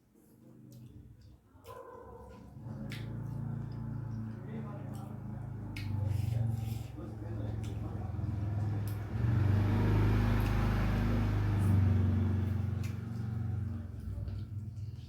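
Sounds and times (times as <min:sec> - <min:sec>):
motor vehicle passing by: 0:02.3 - 0:15.0.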